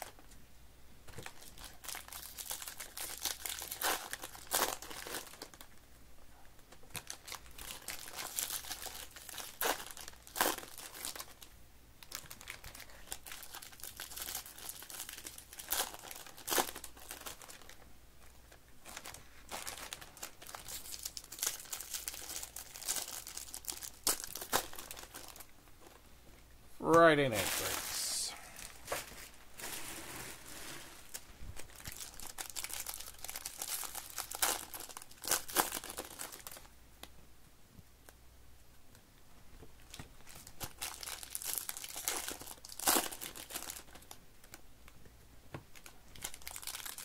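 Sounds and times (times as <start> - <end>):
foil wrappers crinkling and tearing: 1.1 - 5.7, 6.7 - 17.8, 18.5 - 26.0, 27.3 - 36.7, 39.9 - 44.6, 45.7 - 47.0.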